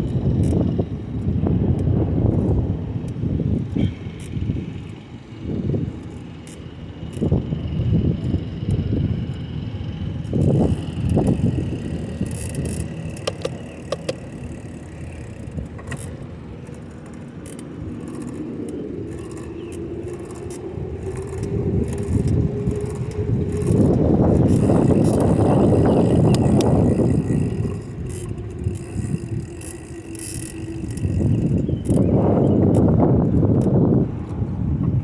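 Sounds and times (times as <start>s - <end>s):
bicycle clicks and rattles: 0.0s - 35.0s
faint steady hum: 0.0s - 35.0s
wind rumbling over microphone: 0.0s - 35.0s.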